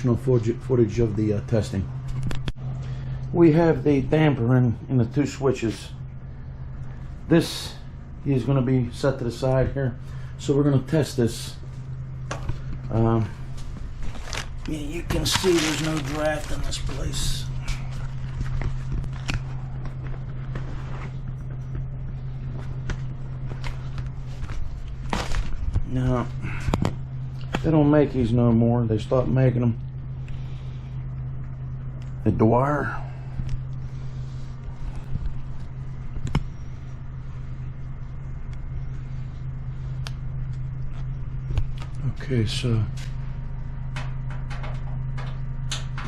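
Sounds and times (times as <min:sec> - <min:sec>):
low machinery hum: 0:00.0 - 0:46.0.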